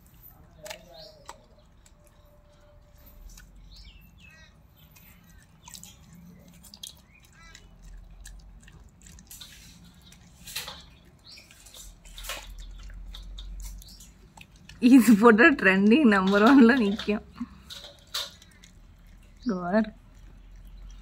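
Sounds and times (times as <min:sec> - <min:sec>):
dog chewing: 0:00.0 - 0:21.0.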